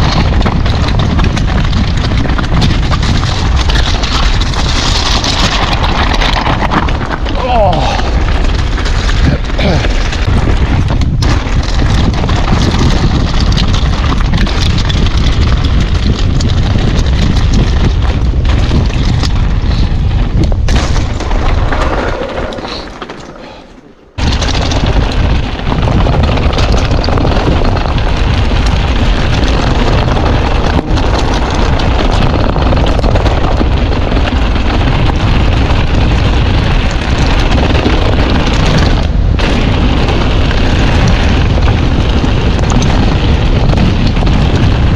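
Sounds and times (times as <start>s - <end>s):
wind buffeting microphone: 0.0s - 22.9s, 24.1s - 44.9s.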